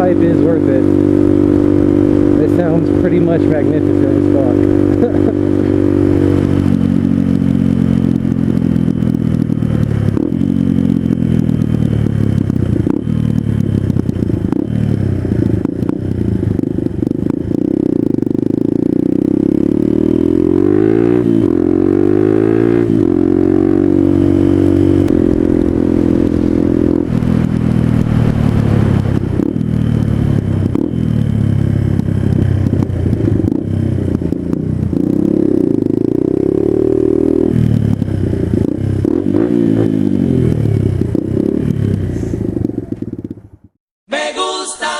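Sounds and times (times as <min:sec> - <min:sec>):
motorcycle engine revving: 0:00.0 - 0:43.8.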